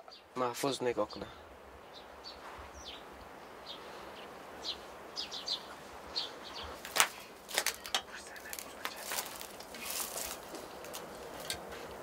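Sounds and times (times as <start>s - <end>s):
faint outdoor background: 0.0s - 12.0s
small birds chirping: 0.0s - 12.0s.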